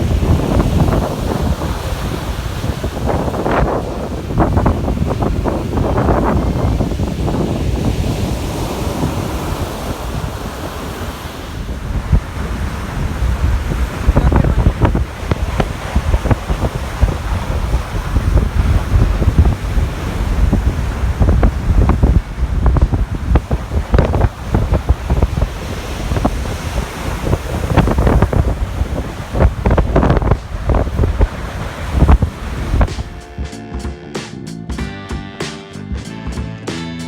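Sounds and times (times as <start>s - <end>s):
surf breaking on beach: 0.0s - 33.3s
wind buffeting microphone: 0.0s - 33.5s.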